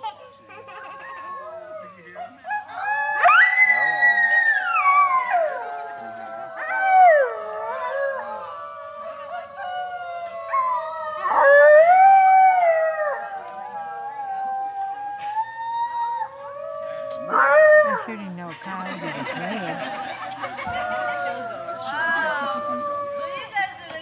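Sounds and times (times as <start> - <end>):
coyotes howling: 0.5 - 18.2, 19.1 - 23.7.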